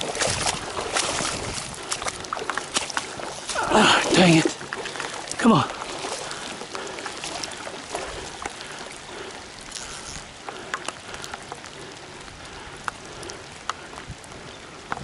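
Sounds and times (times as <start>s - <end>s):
rain hissing: 0.0s - 15.0s
raindrops ticking: 0.0s - 15.0s.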